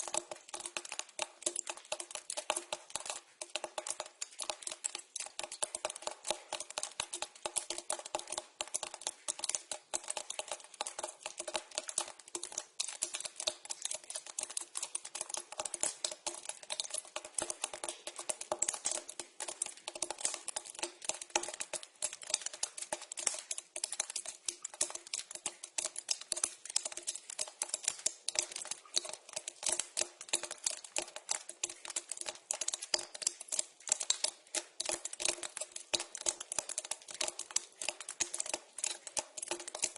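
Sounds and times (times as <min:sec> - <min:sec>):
water dripping into pipe: 0:00.0 - 0:39.9.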